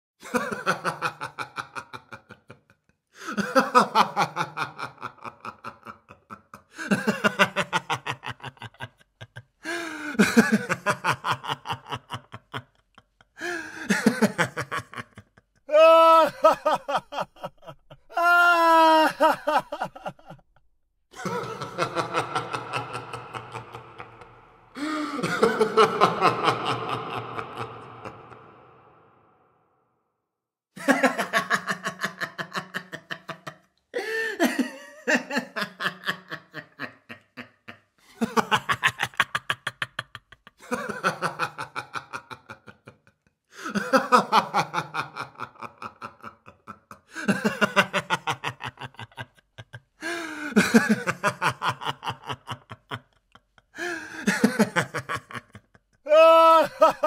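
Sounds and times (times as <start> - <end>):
man laughing: 0.2 - 20.4, 21.2 - 29.4, 30.8 - 57.0.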